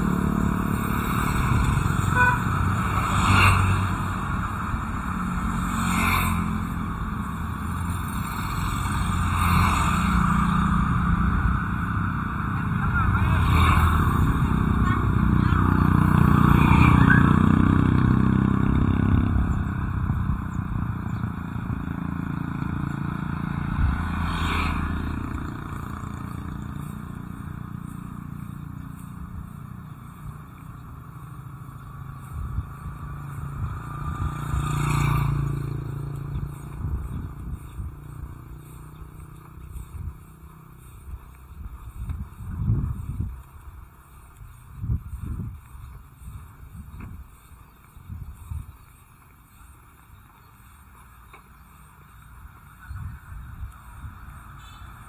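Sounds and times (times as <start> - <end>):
vehicles passing on road: 0.0 - 55.0.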